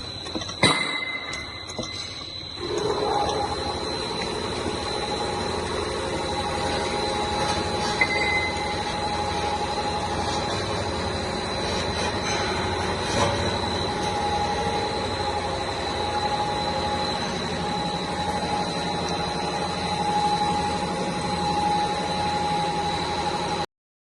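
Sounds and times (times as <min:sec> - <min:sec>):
machine hum with high whine: 0:00.0 - 0:23.7.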